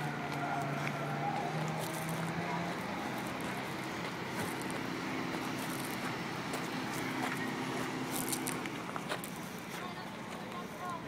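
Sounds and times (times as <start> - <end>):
outdoor background noise: 0.0 - 11.0
steady engine drone: 0.0 - 11.0.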